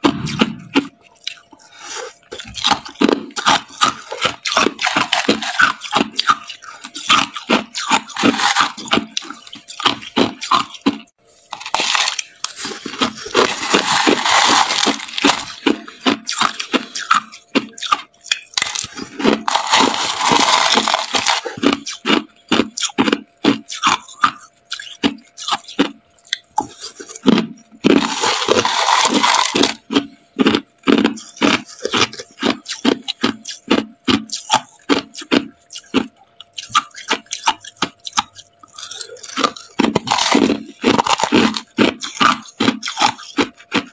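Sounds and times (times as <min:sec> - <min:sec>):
crushed ice being chewed: 0:00.0 - 0:43.9.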